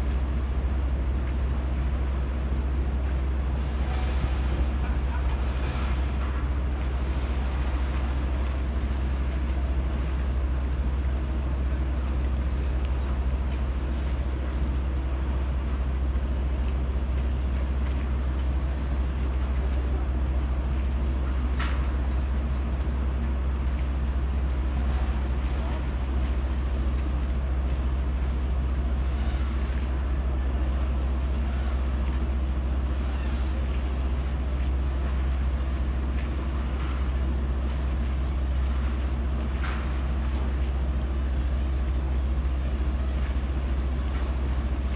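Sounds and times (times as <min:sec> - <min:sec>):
boat diesel engine rumbling: 0:00.0 - 0:44.9.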